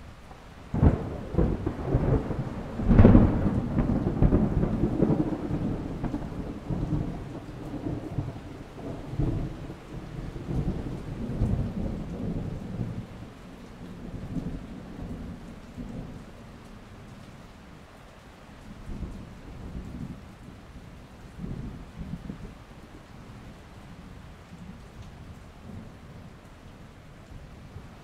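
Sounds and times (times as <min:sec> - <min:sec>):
steady rain: 0:00.0 - 0:28.0
thunderclaps and rumble: 0:00.7 - 0:17.3, 0:18.6 - 0:28.0.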